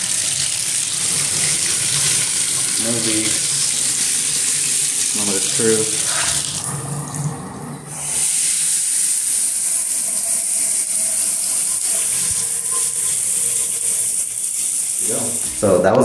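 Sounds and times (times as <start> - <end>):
water flowing from tub spout: 0.0 - 16.0
shower spray hissing: 1.0 - 6.6, 7.9 - 15.7.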